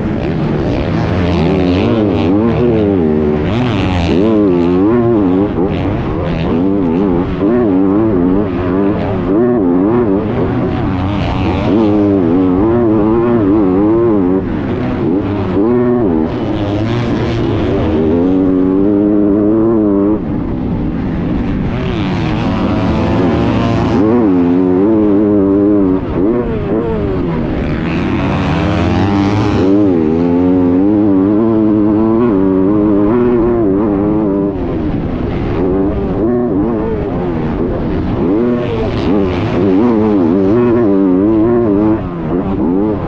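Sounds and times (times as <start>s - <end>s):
motocross bike engine revving: 0.0s - 43.0s.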